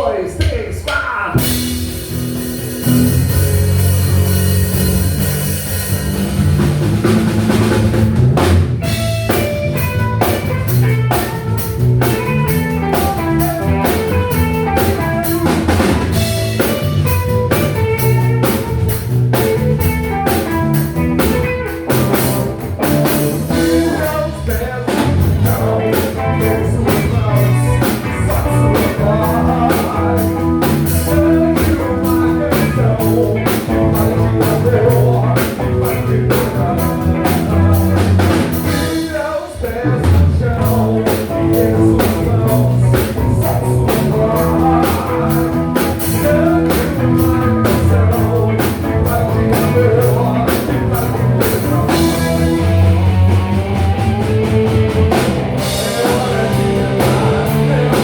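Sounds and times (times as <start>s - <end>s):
drum kit beat: 0.0s - 58.0s
electric bass: 1.3s - 58.0s
electric guitar: 1.3s - 58.0s.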